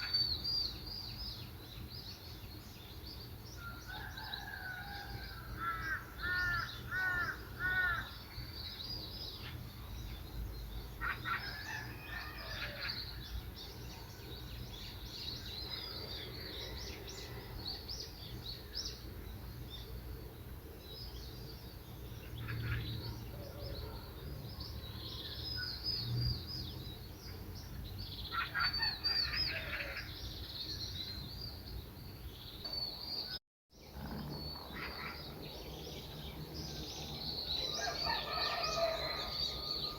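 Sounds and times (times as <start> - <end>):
wild birds chirping and calling: 0.0 - 39.9.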